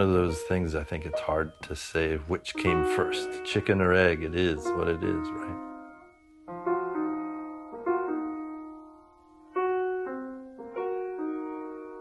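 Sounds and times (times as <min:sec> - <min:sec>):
slow sparse piano notes: 0:00.0 - 0:12.0.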